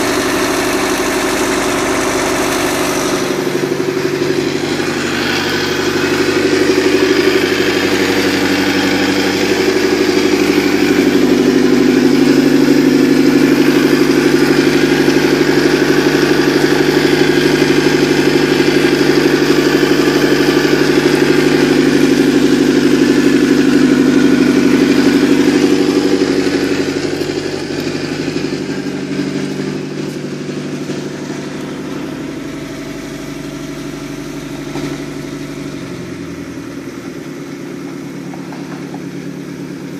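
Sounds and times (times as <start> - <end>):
boat engine idling: 0.0 - 39.9.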